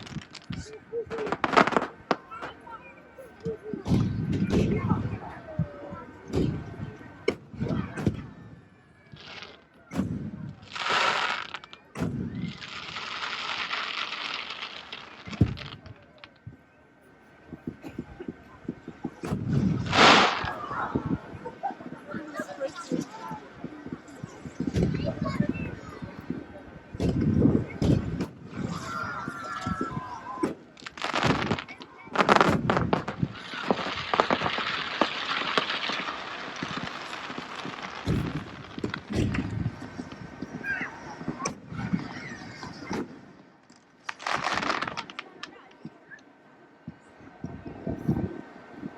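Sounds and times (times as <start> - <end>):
small firework pops: 0.0 - 16.6, 17.6 - 46.3
firework bangs: 0.0 - 16.8, 17.4 - 46.0
crackling hiss of fireworks: 0.0 - 48.9.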